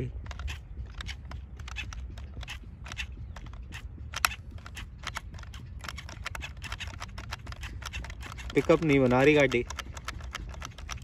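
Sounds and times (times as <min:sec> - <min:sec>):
rc car clicking and crackling: 0:00.0 - 0:11.0.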